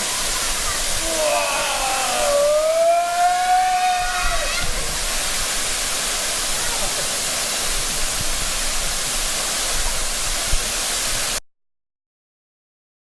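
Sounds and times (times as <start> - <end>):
waterfall rushing water: 0.0 - 11.4.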